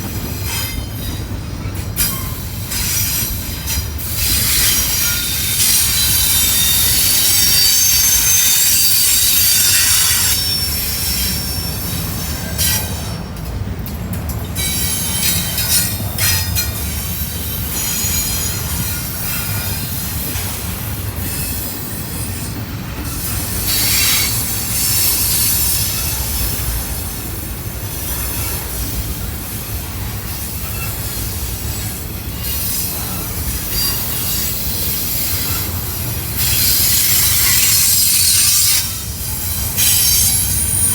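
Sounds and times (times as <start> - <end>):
train wheels squealing: 0.0 - 13.8, 14.4 - 40.9
freight train rumbling past: 0.0 - 40.9.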